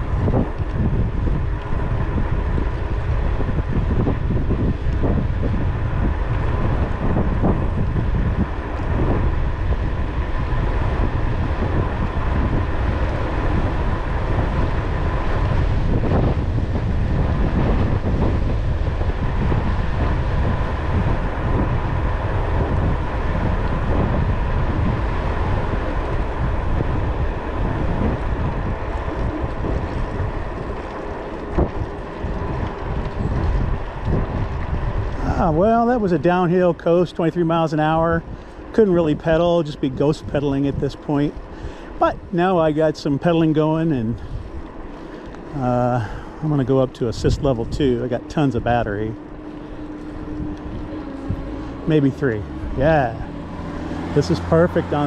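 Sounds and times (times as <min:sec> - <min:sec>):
faint steady whine: 0:00.0 - 0:55.0
wind buffeting microphone: 0:00.0 - 0:55.0.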